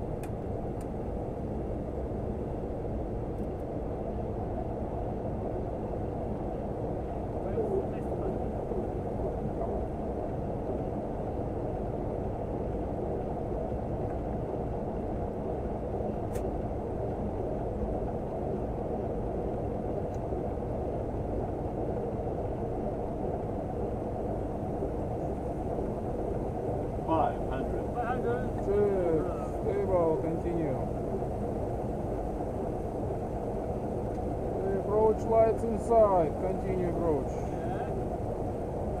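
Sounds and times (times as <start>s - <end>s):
airflow and engine rush: 0.0s - 39.0s.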